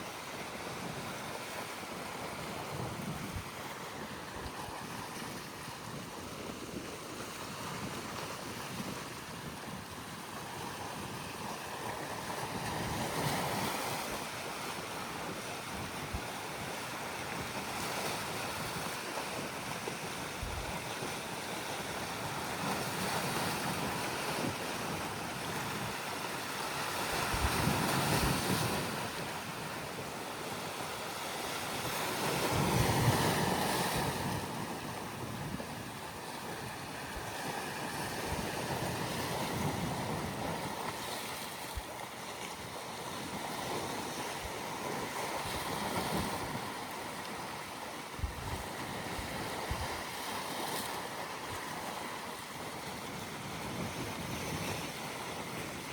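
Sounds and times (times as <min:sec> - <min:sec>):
wind on microphone: 0:00.3 - 0:55.9.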